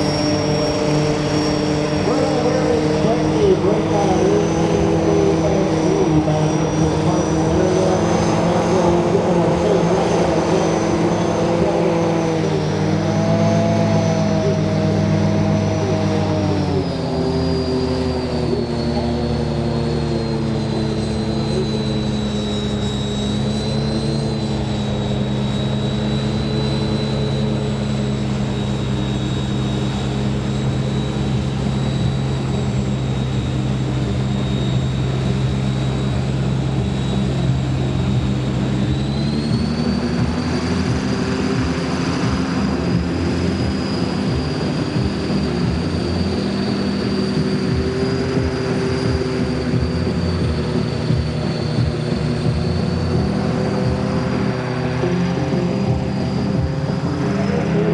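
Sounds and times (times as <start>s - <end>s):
engine droning: 0.0s - 57.9s.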